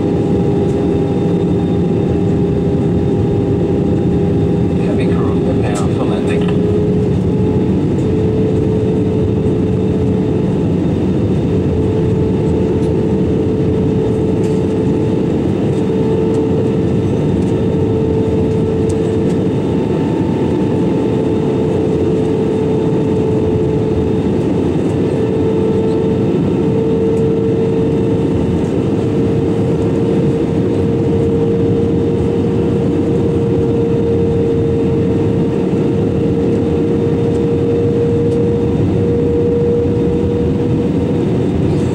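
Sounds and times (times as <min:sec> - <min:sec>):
airplane cabin engine rush: 0:00.0 - 0:41.9.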